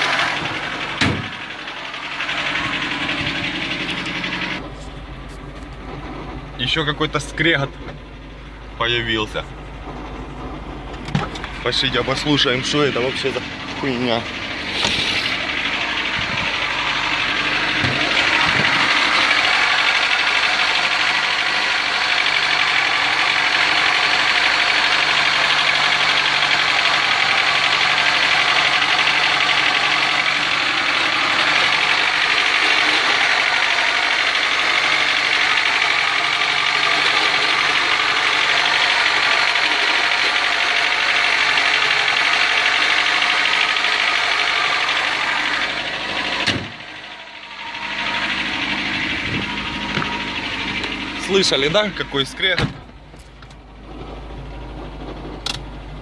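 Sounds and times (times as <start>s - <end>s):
car engine running: 0.0s - 56.0s
grinding noise from engine: 0.0s - 56.0s.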